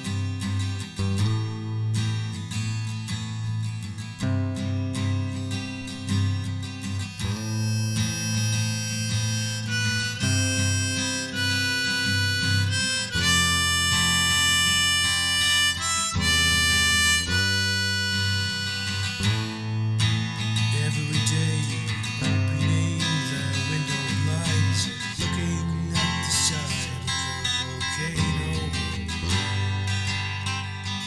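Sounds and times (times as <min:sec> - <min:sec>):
acoustic guitar accompaniment: 0:00.0 - 0:31.0
harmonica melody: 0:04.2 - 0:31.0.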